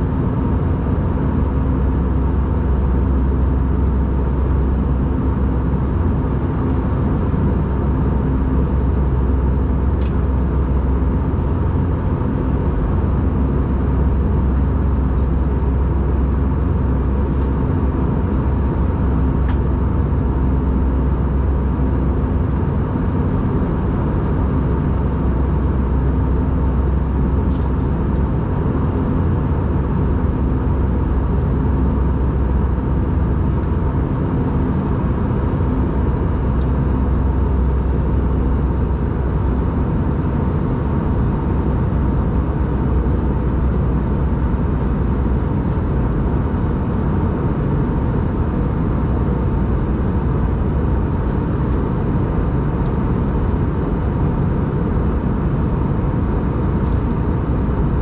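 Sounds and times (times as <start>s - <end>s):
airplane cabin rumble: 0.0s - 58.0s
faint steady hum: 1.8s - 58.0s.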